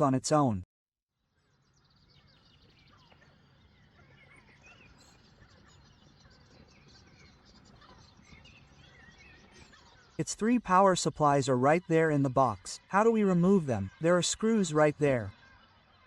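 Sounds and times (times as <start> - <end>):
distant bird chirps: 1.2 - 16.0.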